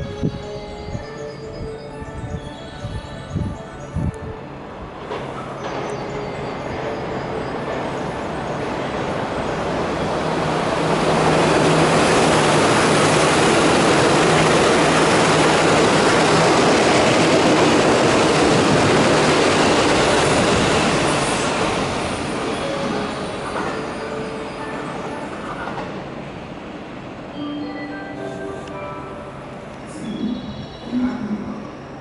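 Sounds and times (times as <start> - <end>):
train wheels rumbling on rails: 0.0 - 27.3.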